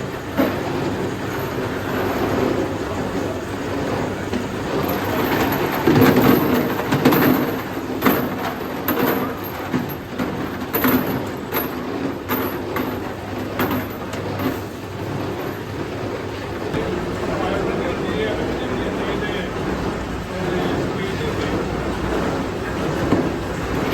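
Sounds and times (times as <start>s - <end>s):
workshop machinery running: 0.0s - 23.9s.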